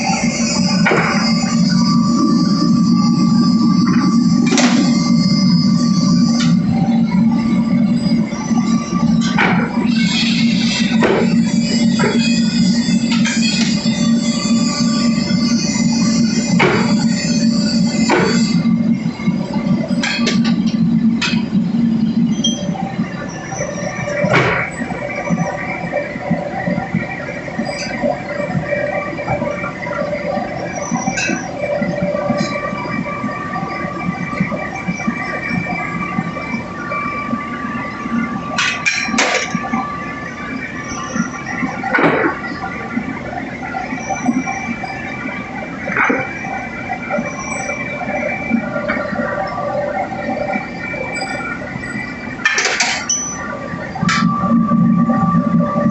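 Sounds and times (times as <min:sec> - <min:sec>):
machinery hum with whining tones: 0:00.0 - 0:55.9.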